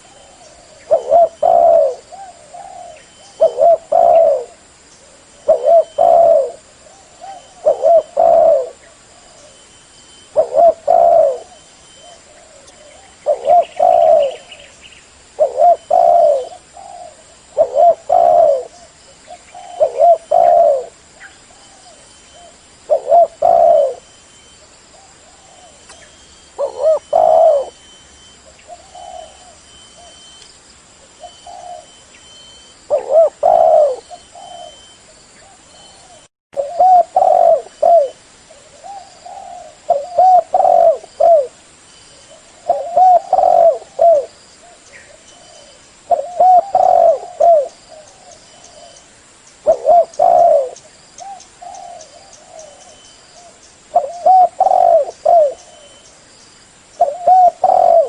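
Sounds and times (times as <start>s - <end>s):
dove cooing: 0.0s - 14.7s, 15.4s - 30.4s, 31.1s - 41.6s, 42.2s - 49.0s, 49.6s - 56.1s, 56.9s - 58.0s.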